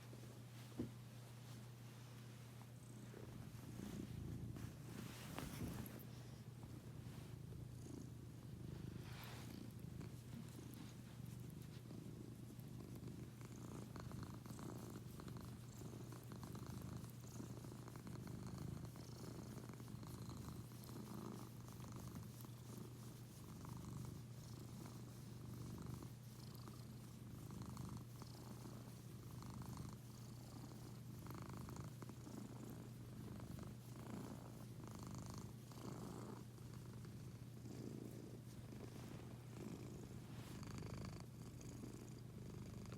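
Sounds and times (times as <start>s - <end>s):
cat purring: 2.6s - 42.9s.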